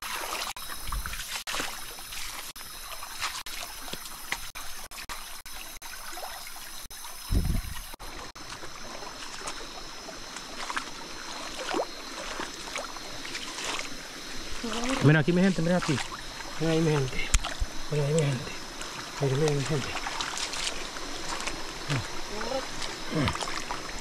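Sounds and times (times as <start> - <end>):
stream trickling over rocks: 0.0 - 24.0.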